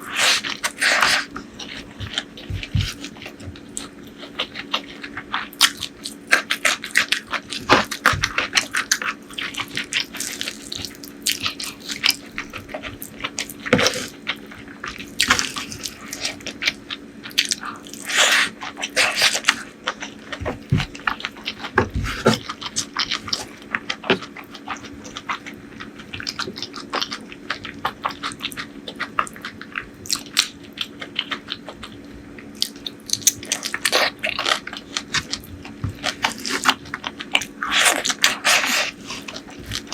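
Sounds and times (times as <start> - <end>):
faint steady hum: 0.0 - 39.9
wet chewing and lip-smacking: 0.0 - 39.9.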